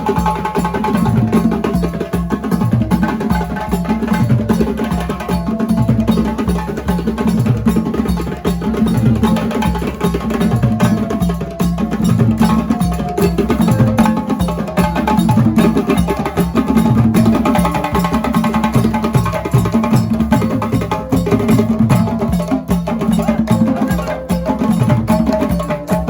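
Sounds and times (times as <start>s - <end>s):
drums in repeating rhythm: 0.0s - 26.0s.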